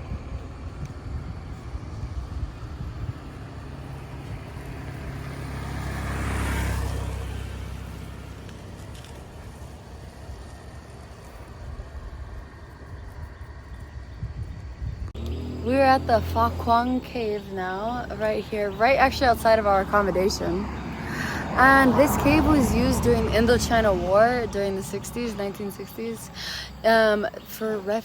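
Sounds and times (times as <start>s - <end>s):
steady low rumble: 0.0s - 5.2s, 8.3s - 26.1s
motor vehicle passing by: 0.0s - 27.1s.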